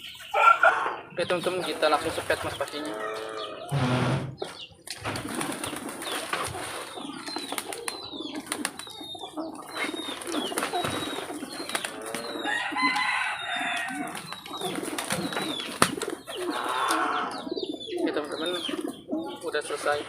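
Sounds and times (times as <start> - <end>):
birds chirping: 0.0 - 20.0
pigeons cooing: 0.0 - 20.0.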